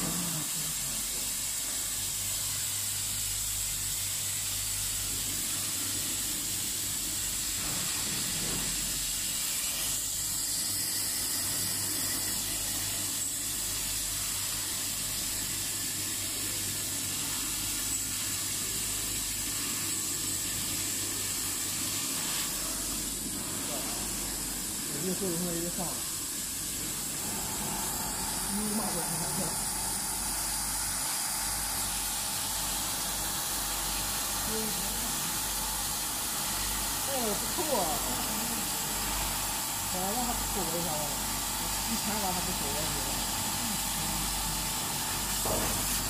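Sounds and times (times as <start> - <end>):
laser cutting machine running: 0.0 - 46.0.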